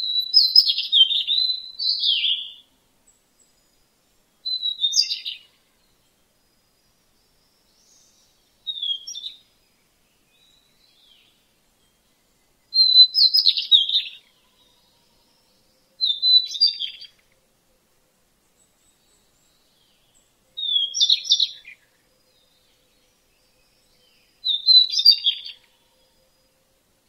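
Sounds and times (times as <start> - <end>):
songbird singing: 0.0 - 27.0.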